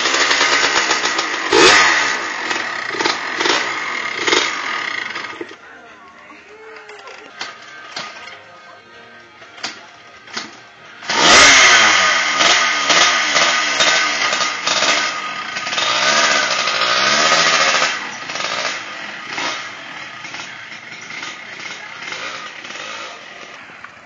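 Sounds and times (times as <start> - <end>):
motorcycle engine revving: 0.0 - 5.6, 6.8 - 8.5, 9.4 - 24.0.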